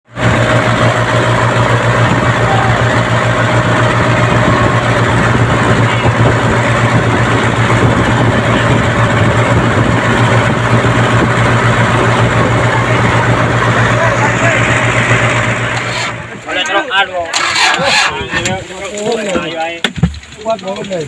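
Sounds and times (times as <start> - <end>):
heavy engine idling: 0.1 - 18.2.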